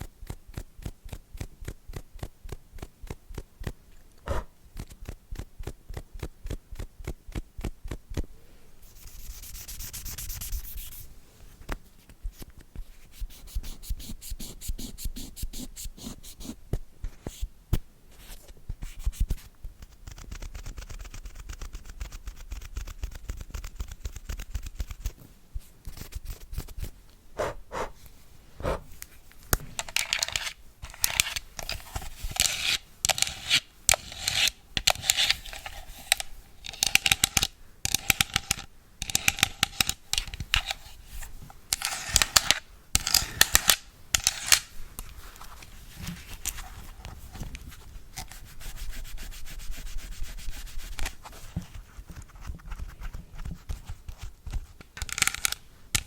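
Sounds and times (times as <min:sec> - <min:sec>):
scratchy brushing and rubbing: 0:00.0 - 0:07.4, 0:08.8 - 0:11.1, 0:18.2 - 0:56.0.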